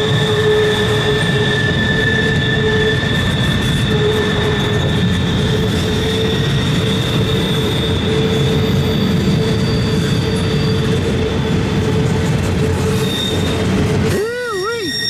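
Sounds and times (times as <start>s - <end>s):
high wheel squeal: 0.0s - 15.0s
train wheels rolling on rail: 0.0s - 15.0s.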